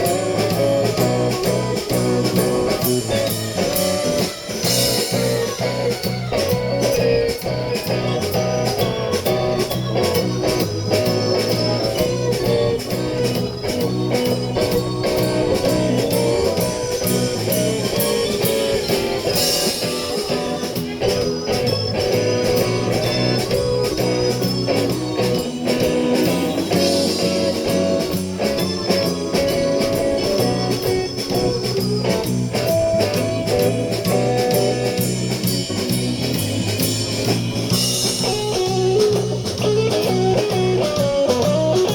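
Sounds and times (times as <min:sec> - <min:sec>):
bass guitar: 0:00.0 - 0:41.9
electric guitar: 0:00.0 - 0:41.9
steady drum beat: 0:00.0 - 0:41.9.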